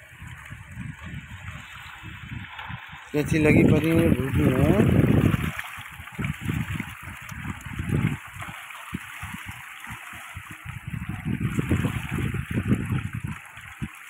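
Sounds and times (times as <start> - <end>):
fish thrashing and splashing: 0.0 - 14.0.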